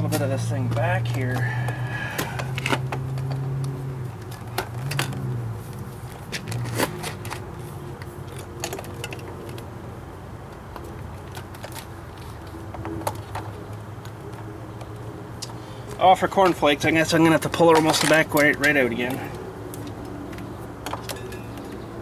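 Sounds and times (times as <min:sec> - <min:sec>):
wires and plastic parts handled: 0:00.0 - 0:09.7, 0:10.5 - 0:21.7.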